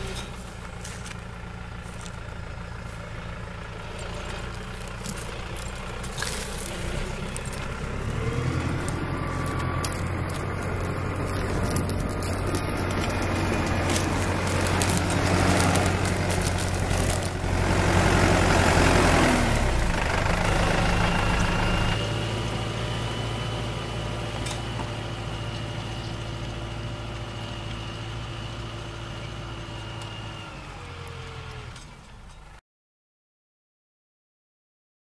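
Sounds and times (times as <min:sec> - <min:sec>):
tractor diesel engine under load: 0:00.0 - 0:32.6.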